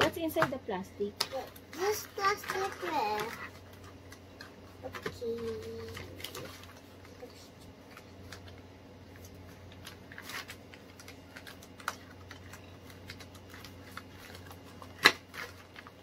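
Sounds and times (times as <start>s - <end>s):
plastic packaging crinkling: 1.2s - 16.0s.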